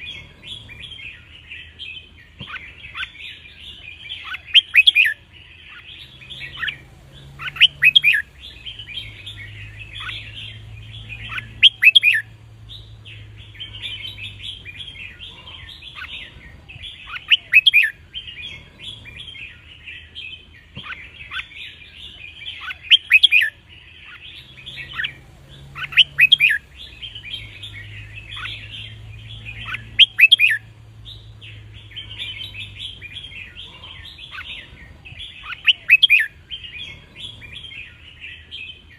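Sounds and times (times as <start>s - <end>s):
bird chattering and warbling: 0.0s - 38.9s.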